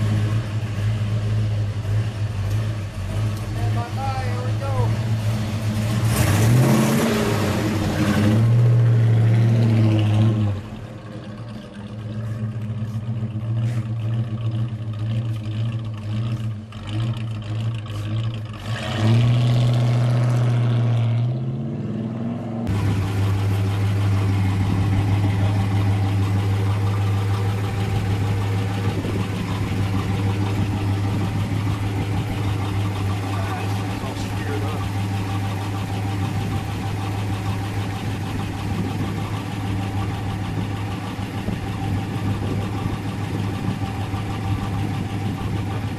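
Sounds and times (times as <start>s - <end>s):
car engine droning: 0.0s - 45.9s.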